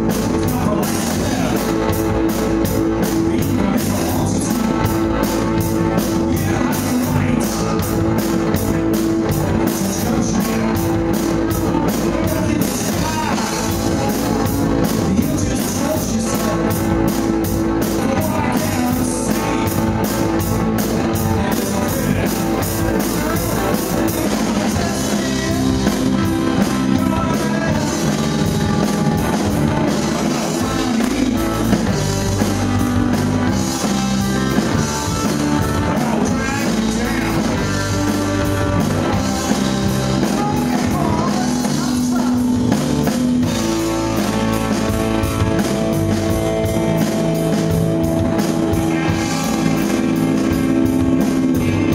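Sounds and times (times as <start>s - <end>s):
live rock band: 0.0s - 51.9s.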